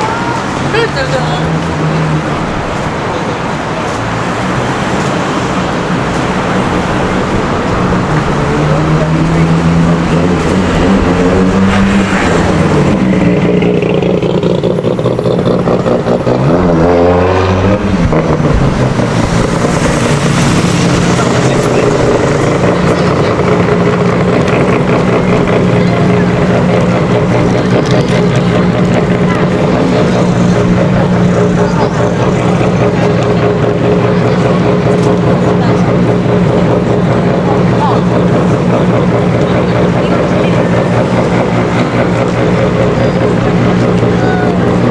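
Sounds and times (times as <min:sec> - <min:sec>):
vehicle engines running: 0:00.0 - 0:44.9
vehicles passing by: 0:00.0 - 0:44.9.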